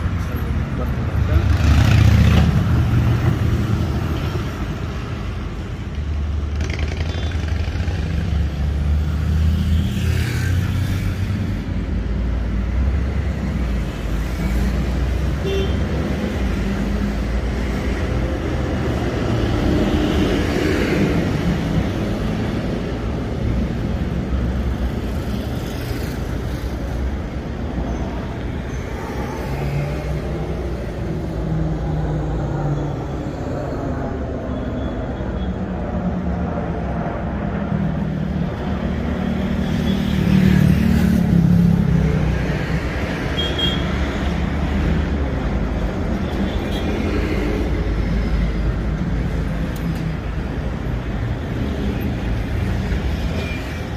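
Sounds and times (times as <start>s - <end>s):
vehicles passing by: 0.0s - 53.9s.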